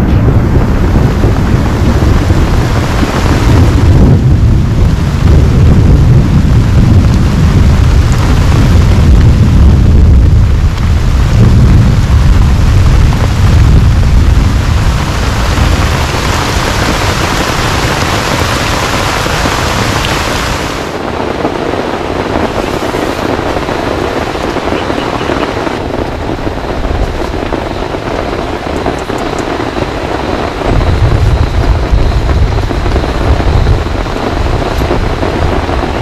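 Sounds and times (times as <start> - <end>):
heavy rain pouring: 0.0 - 36.0
thunder rumbling: 0.0 - 36.0.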